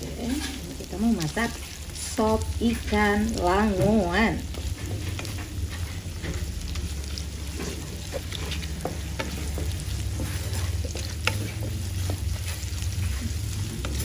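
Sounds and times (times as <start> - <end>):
aromatics sizzling in oil: 0.0 - 14.0
steady low hum: 0.0 - 14.0
spatula scraping and tapping pan: 0.1 - 1.8, 2.7 - 14.0.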